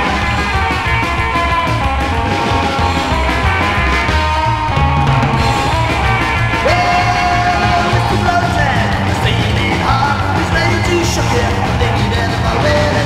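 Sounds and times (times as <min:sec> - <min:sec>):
rock band instrumental: 0:00.0 - 0:13.0.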